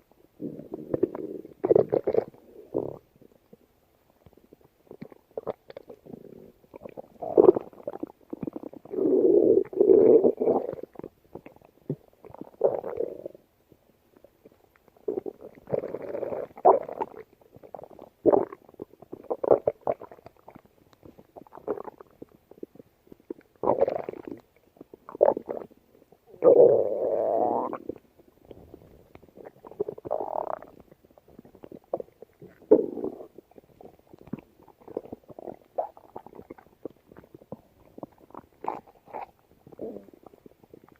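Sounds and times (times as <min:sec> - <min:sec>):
stomach growling and gurgling: 0:00.3 - 0:40.9.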